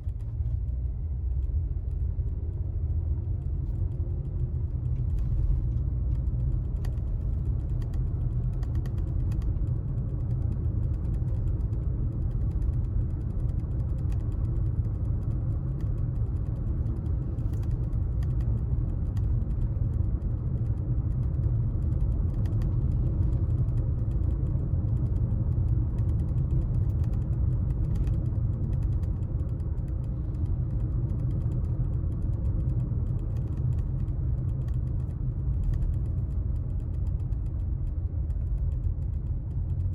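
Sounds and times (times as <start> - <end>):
car road and engine rumble: 0.0 - 39.9
faint clicks and creaks: 0.0 - 39.9.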